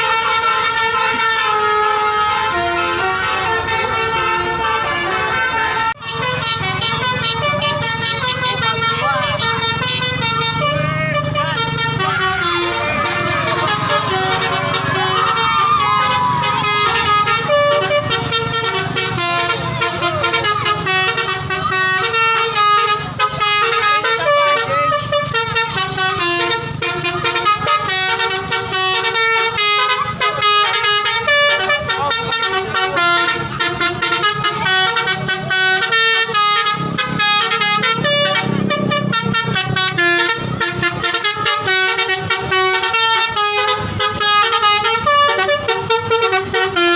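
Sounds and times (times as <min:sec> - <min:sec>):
bus engine running: 0:00.0 - 0:46.9
multi-note air horns: 0:00.0 - 0:46.9.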